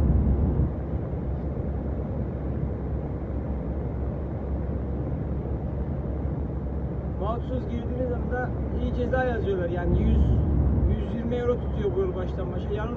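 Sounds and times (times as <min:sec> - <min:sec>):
truck engine and road noise: 0:00.0 - 0:12.9.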